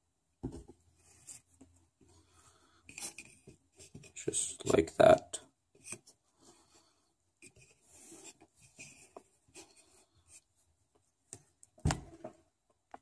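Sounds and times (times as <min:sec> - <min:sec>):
cord rustling and scraping: 0:00.5 - 0:04.8, 0:05.8 - 0:12.4.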